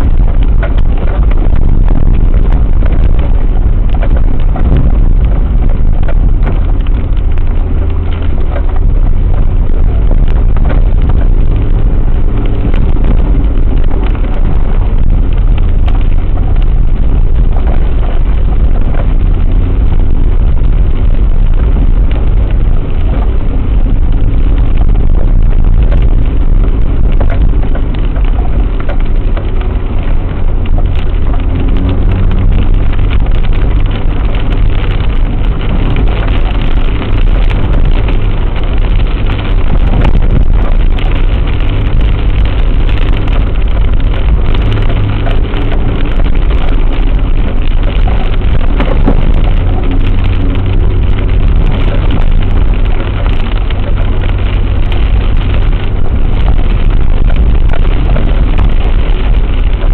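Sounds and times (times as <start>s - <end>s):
knocks and rattles: 0.0s - 59.9s
vehicle engine and road rumble: 0.0s - 59.9s.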